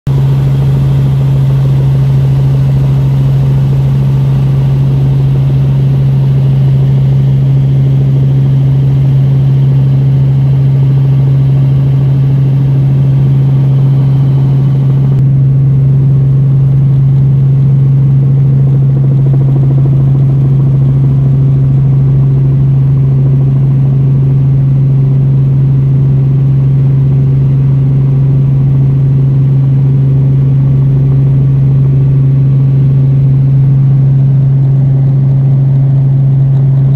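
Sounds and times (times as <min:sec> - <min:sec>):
drone motor hum: 0:00.1 - 0:24.9, 0:31.0 - 0:36.9.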